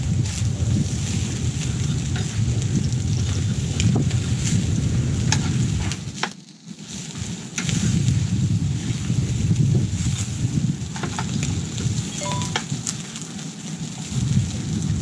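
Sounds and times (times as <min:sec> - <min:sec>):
crackles and pops: 0:00.0 - 0:15.0
meat sizzling on a charcoal grill: 0:00.0 - 0:15.0.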